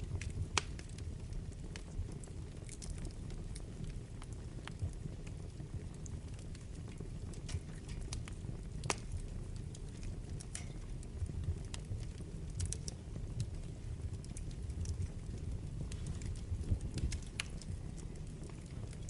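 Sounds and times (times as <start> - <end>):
fire flames roaring: 0.0 - 19.0
logs crackling and popping: 0.0 - 19.0.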